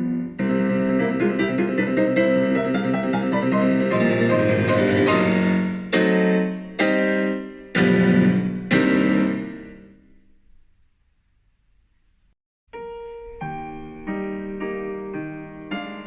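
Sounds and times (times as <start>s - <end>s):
piano chords: 0.0s - 10.9s, 12.7s - 16.0s.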